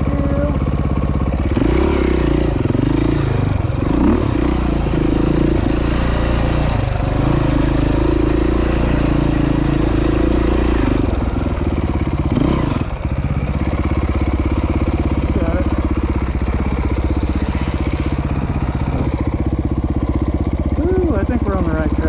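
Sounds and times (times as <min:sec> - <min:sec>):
off-road engine revving: 0:00.0 - 0:22.0.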